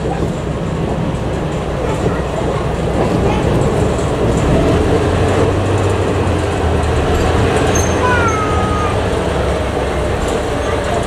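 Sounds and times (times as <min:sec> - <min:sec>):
diesel locomotive engine drone: 0:00.0 - 0:11.0
wheels rumbling on rails: 0:00.0 - 0:11.0.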